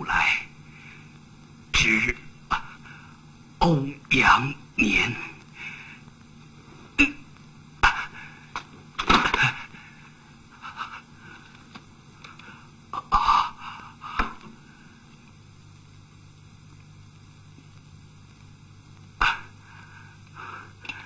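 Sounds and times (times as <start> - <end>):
steady low hum and hiss: 0.0 - 21.0.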